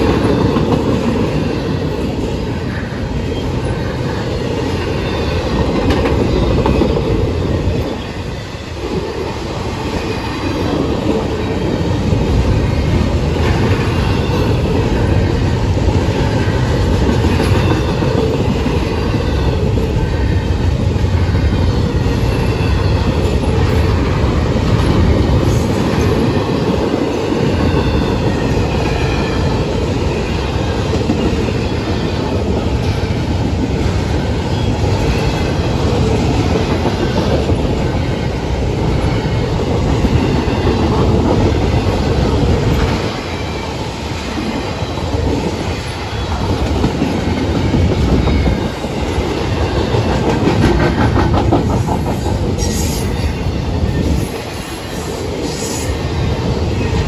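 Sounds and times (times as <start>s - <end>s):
freight train wheels clacking on rails: 0.0s - 57.0s.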